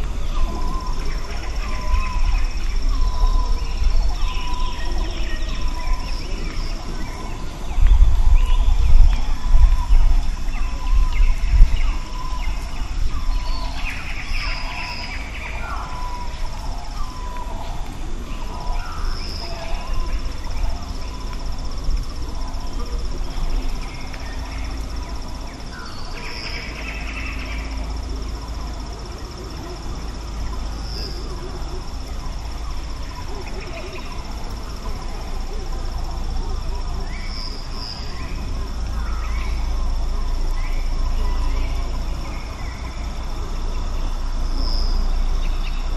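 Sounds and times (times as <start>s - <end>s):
birds chirping: 0.0s - 45.9s
insects buzzing: 0.0s - 45.9s
wind rumble on microphone: 0.0s - 45.9s.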